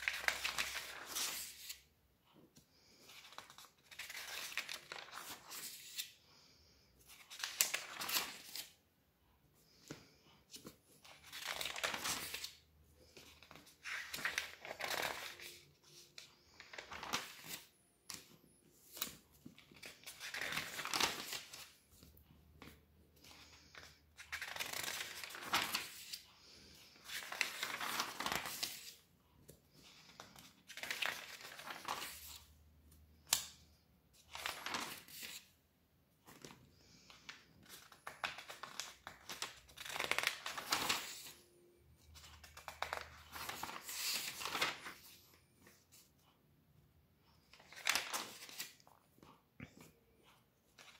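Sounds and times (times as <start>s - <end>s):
magazine pages turning: 0.0s - 1.9s, 2.7s - 8.8s, 9.6s - 29.0s, 29.7s - 32.6s, 33.2s - 35.5s, 36.3s - 41.5s, 42.1s - 46.1s, 47.4s - 49.9s.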